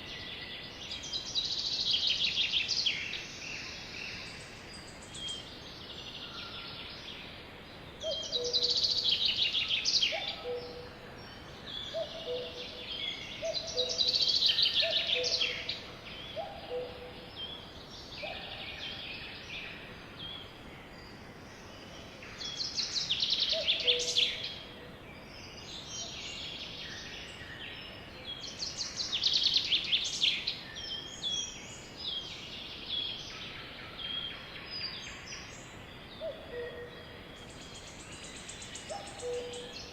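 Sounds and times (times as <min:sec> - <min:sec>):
songbird trilled song: 0:00.0 - 0:39.9
steady outdoor hiss: 0:00.0 - 0:39.9.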